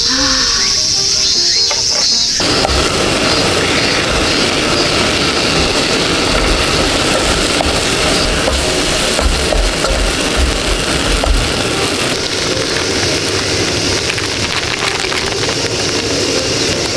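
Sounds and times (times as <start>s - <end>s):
curry sizzling in a pot: 0.7s - 16.9s.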